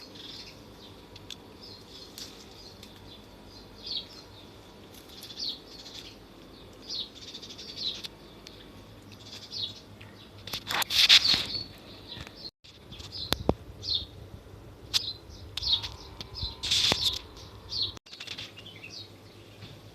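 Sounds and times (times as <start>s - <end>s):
birds chirping: 0.0s - 14.2s, 14.8s - 19.9s.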